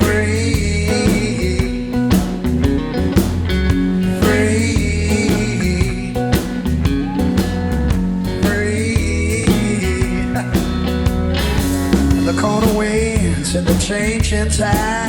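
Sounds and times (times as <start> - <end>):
man singing: 0.0 - 2.8, 3.9 - 11.2, 12.1 - 15.0
bass: 0.0 - 15.0
guitar: 0.0 - 15.0
steady drum beat: 0.0 - 15.0.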